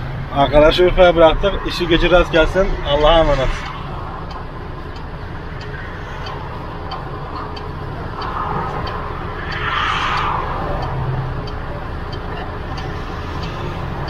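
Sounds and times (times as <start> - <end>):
rushing noise: 0.0 - 14.0
faint regular ticking: 0.4 - 14.0.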